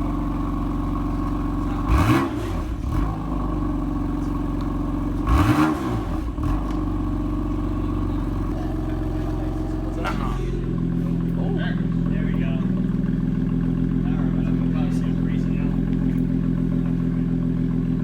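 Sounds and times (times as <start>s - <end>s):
car exhaust idling and revving: 0.0s - 18.0s.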